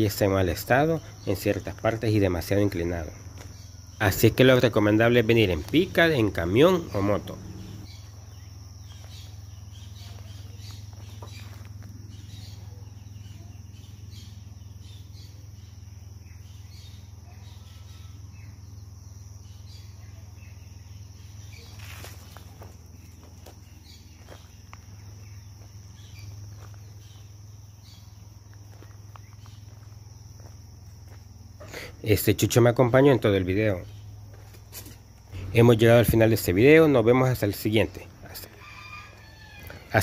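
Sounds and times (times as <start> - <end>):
insects chorus: 0.0 - 40.0
low steady rumble: 0.1 - 17.2, 22.6 - 38.6.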